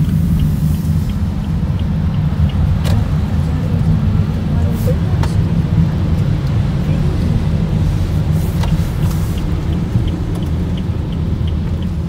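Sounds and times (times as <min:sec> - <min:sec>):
car rumbling on wet road: 0:00.0 - 0:12.0.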